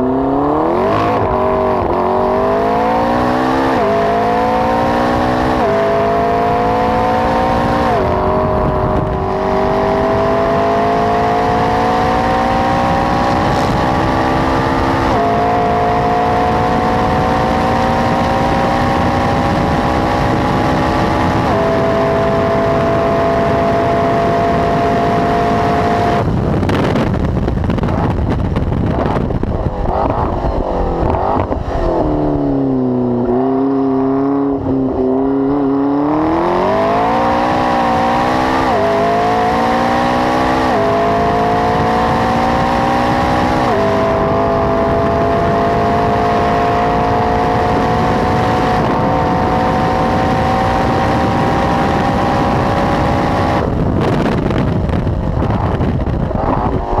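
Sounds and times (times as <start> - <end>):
car engine revving hard: 0.0 - 57.0.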